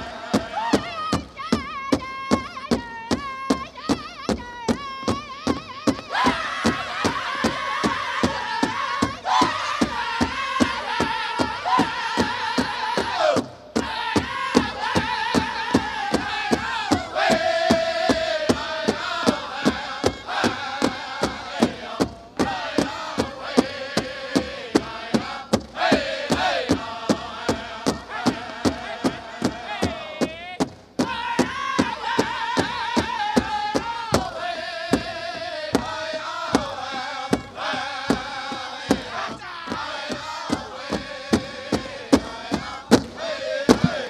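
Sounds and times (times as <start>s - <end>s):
big drum steady beat: 0.0s - 44.0s
singers chanting in unison: 0.0s - 44.0s.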